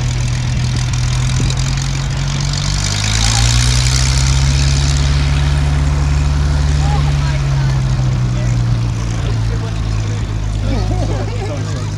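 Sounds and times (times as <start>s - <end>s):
propeller aircraft engine running: 0.0s - 11.9s
propeller hiss: 0.0s - 11.9s.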